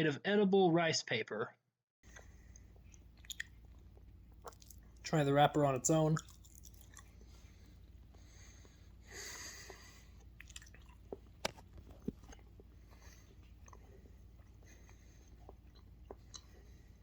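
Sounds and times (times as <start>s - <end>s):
chewing and mouth clicks: 2.1s - 17.0s.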